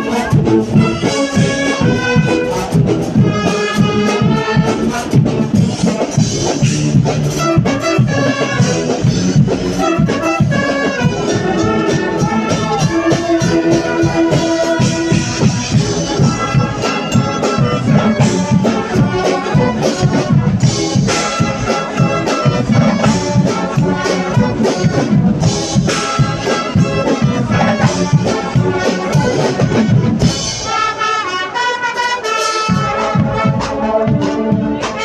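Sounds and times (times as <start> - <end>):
bass drum and percussion beat: 0.0 - 30.7, 32.7 - 35.0
brass band playing: 0.0 - 35.0.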